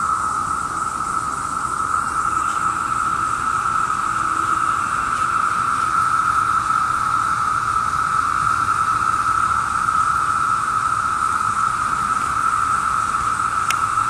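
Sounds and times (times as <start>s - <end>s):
cicadas droning: 0.0s - 14.0s.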